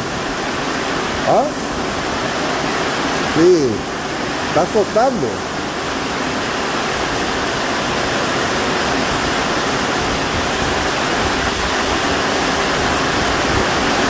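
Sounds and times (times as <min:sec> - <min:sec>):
heavy rain on a metal roof: 0:00.0 - 0:14.0
water streaming onto the ground: 0:00.0 - 0:14.0.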